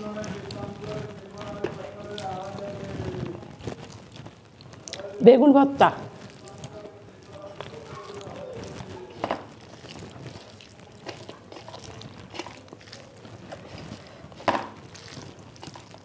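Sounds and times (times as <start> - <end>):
wet squelches of hand mixing food: 0.0 - 16.0.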